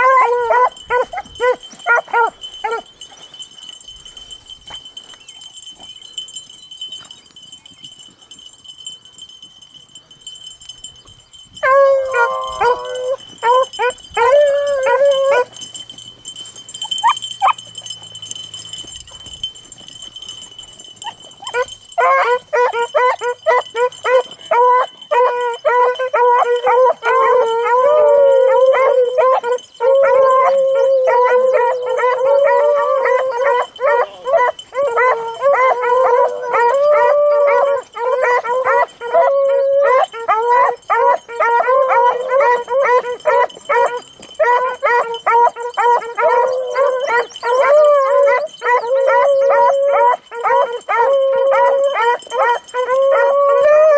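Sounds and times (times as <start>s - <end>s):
hounds baying: 0.0s - 7.3s, 11.6s - 53.9s.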